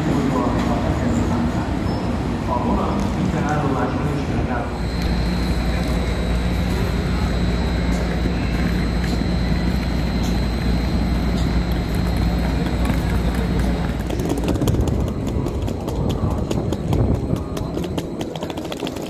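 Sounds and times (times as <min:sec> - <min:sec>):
low hum with high whine: 0:00.0 - 0:19.0.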